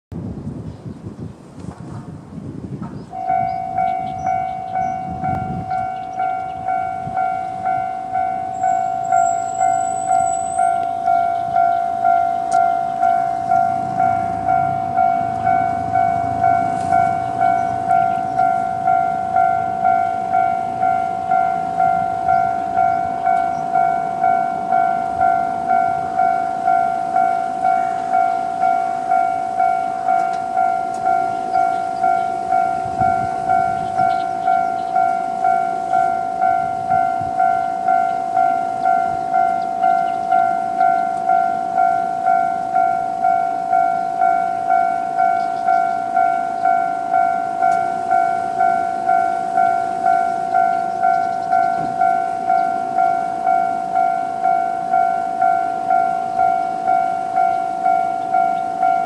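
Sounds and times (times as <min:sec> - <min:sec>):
railcar passing low rumble: 0:00.1 - 0:59.0
level crossing alarm bell: 0:03.1 - 0:59.0.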